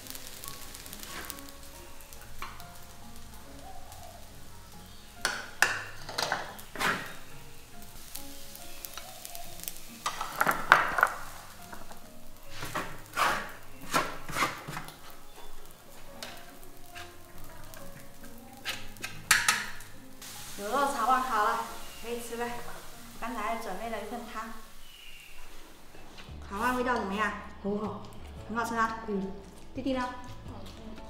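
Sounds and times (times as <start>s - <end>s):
faint pan sizzle: 0.0s - 31.0s
wooden spatula scraping wok: 0.1s - 27.4s.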